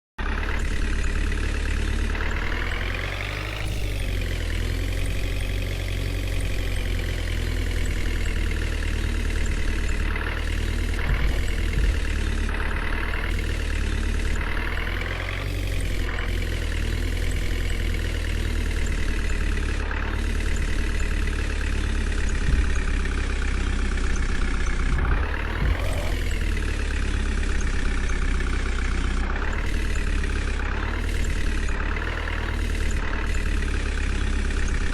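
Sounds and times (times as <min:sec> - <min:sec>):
diesel engine revving under load: 0:00.2 - 0:34.9.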